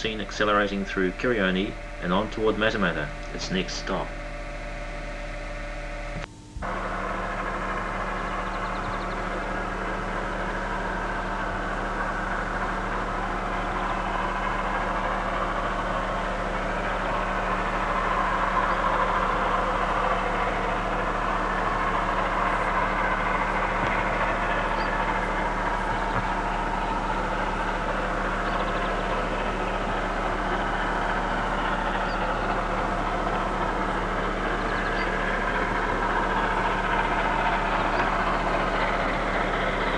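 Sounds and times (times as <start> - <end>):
distant steam train rushing: 0.0 - 4.8, 6.6 - 39.9
low electrical hum: 0.0 - 39.9.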